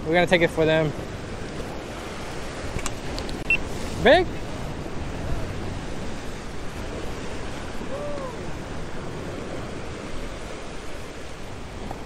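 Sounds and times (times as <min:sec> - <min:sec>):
surf breaking against rocks: 0:00.0 - 0:12.0
wind buffeting microphone: 0:00.0 - 0:12.0.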